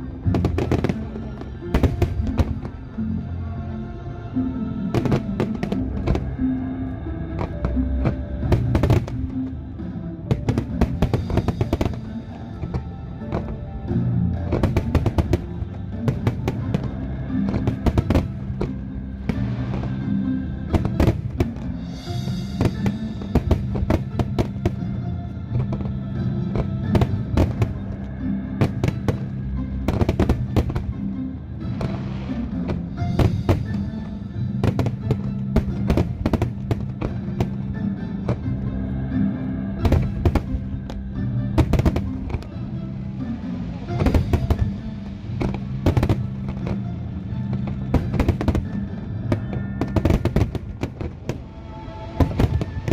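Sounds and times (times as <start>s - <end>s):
fireworks bangs and crackles: 0.0s - 3.0s, 4.9s - 6.4s, 7.4s - 9.5s, 10.3s - 38.6s, 39.7s - 42.5s, 43.6s - 52.9s
music playing: 0.0s - 52.9s.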